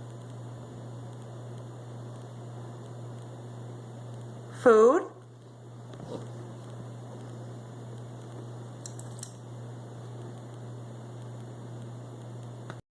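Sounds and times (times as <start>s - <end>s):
electrical hum and hiss: 0.0s - 12.8s.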